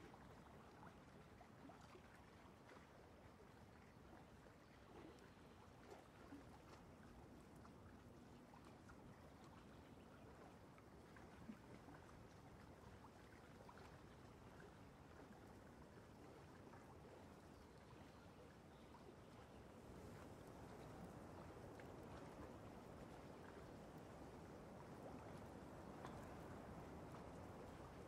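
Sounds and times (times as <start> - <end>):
low steady hiss: 0.0 - 28.0.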